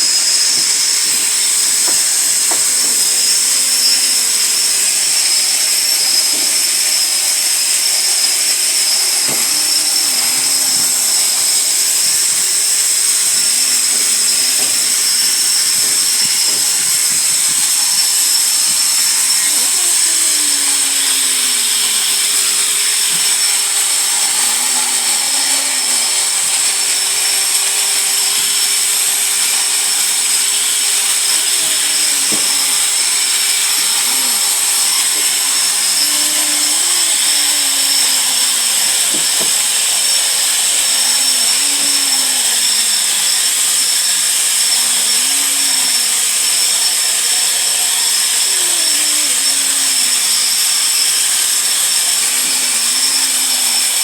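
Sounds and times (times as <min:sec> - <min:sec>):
floor grinding machine whine: 0:00.0 - 0:54.0.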